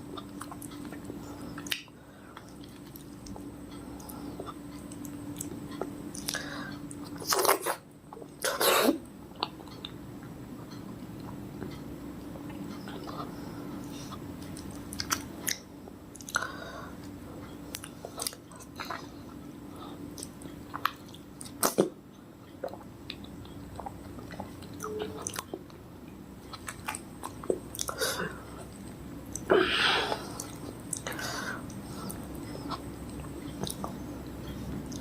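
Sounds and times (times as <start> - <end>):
chewing soft juicy fruit: 0.0 - 8.6, 9.3 - 35.0.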